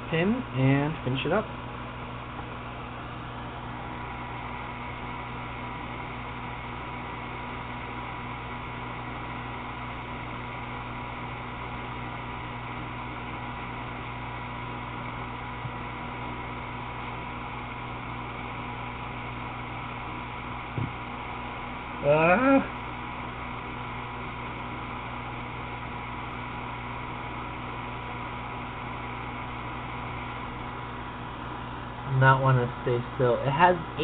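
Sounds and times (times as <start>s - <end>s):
hum and hiss: 0.0s - 34.0s.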